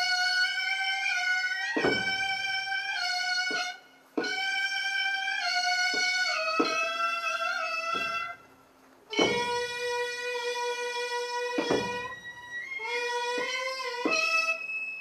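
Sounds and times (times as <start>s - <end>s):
drum strokes: 0.0s - 8.5s, 9.1s - 10.6s, 11.3s - 14.6s
reed pipe long held notes: 0.0s - 8.5s, 9.1s - 15.0s.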